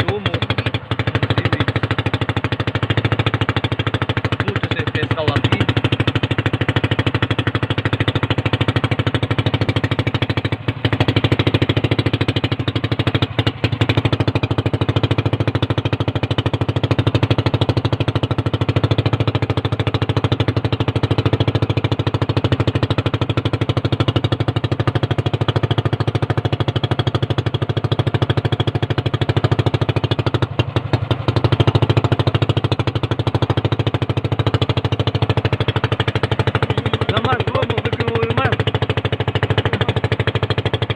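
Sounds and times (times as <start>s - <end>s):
boat engine puttering: 0.0s - 40.9s.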